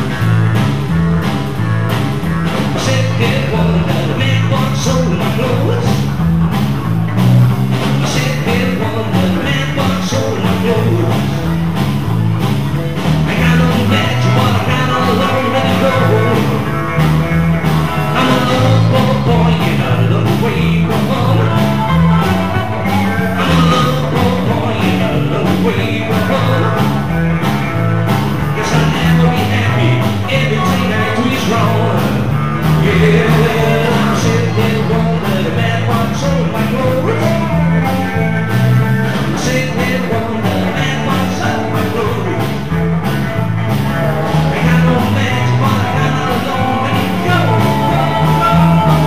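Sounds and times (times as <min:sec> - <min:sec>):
drum kit: 0:00.0 - 0:49.0
electric bass line: 0:00.0 - 0:49.0
electric guitar: 0:00.0 - 0:49.0.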